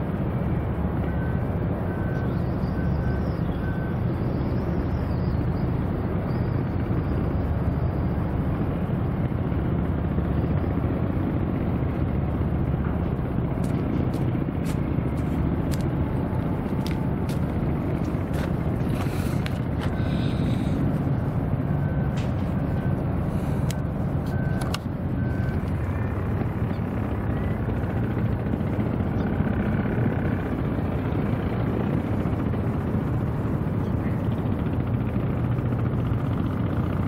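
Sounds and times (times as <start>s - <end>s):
low harbourside rumble: 0.0s - 37.0s.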